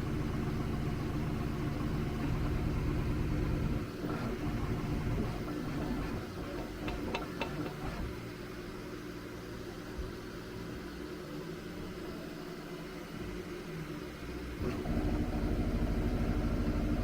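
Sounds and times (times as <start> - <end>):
printer motors and fans humming: 0.0 - 17.0.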